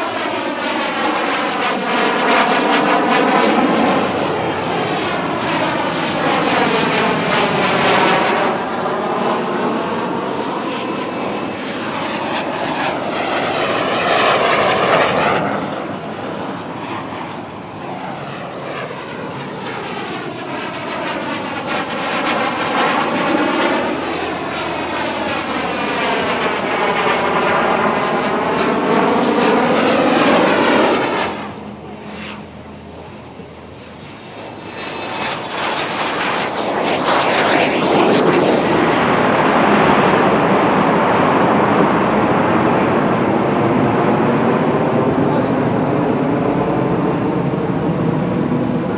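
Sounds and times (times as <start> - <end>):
jet engines passing by: 0.0 - 48.9.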